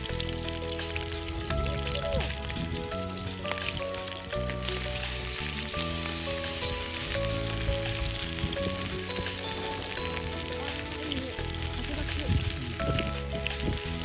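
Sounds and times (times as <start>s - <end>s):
background music of held notes: 0.0s - 14.0s
food sizzling in a pan: 0.0s - 14.0s.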